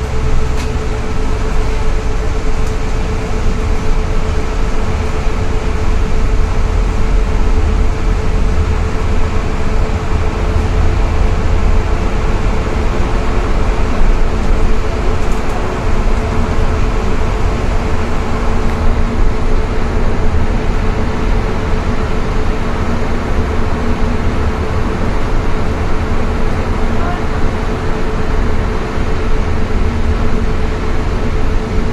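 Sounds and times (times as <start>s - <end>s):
tyres on wet road: 0.0s - 31.9s
vehicle interior rumble: 0.0s - 31.9s.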